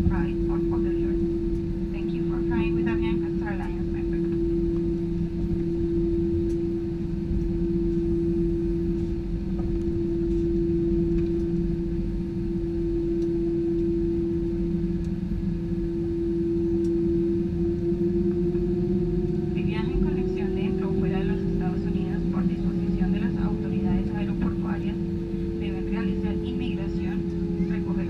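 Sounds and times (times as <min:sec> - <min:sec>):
jet engines droning: 0:00.0 - 0:28.0.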